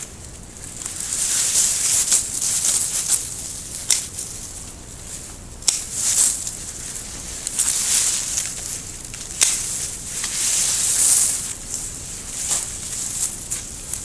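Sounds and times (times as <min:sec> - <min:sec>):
dry leaves and twigs rustling: 0:00.0 - 0:14.0
pruning shears snipping twigs: 0:00.6 - 0:04.5, 0:05.6 - 0:14.0.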